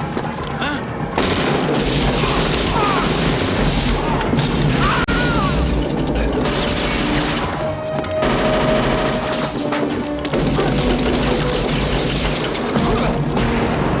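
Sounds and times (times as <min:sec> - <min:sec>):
film score music: 0:00.0 - 0:14.0.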